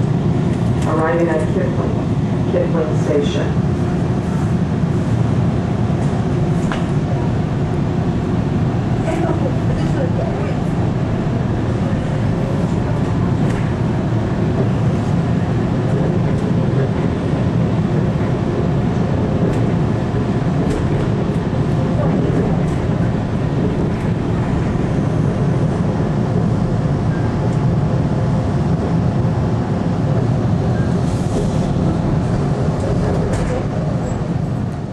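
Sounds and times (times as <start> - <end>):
subway train rumble: 0.0 - 34.9.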